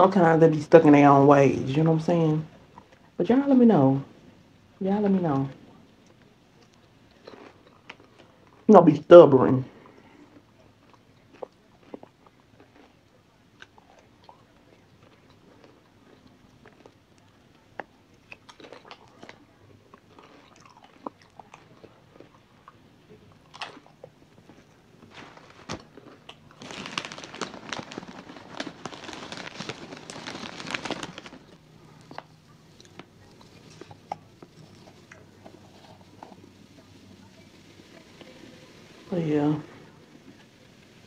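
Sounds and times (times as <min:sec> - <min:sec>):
chewing and crunching: 0:02.5 - 0:03.2, 0:05.3 - 0:08.8, 0:09.6 - 0:38.8.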